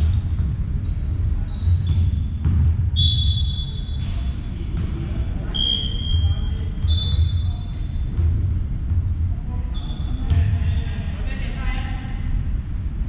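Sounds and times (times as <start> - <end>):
basketball bouncing on court: 0.0 - 10.8
sneakers squeaking on floor: 0.0 - 11.2.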